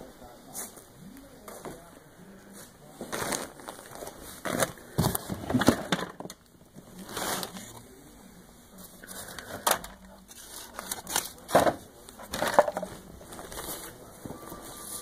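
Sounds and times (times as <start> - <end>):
insulation crunching and crinkling: 0.2 - 15.0.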